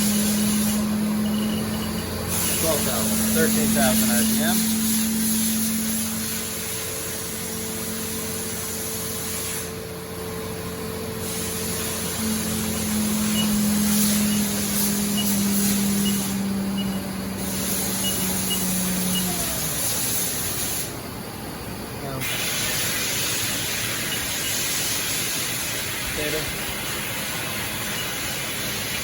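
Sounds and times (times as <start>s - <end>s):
machine spindle spinning: 0.0s - 20.6s, 22.3s - 29.0s.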